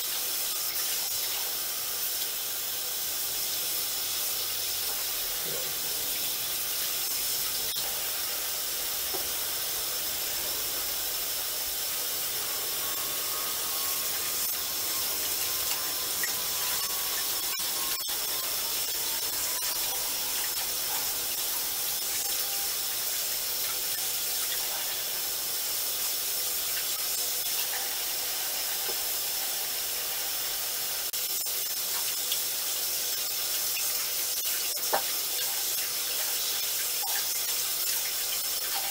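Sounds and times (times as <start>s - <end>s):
faucet running into sink: 0.0s - 38.9s.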